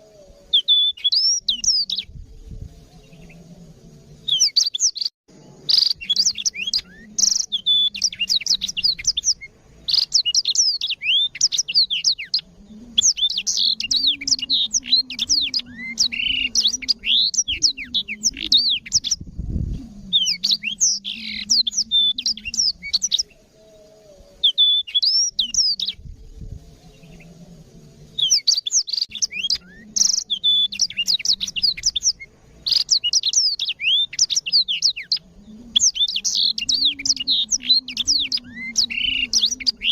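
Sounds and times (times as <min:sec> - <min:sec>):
canary singing: 0:00.0 - 0:26.0, 0:26.8 - 0:39.9.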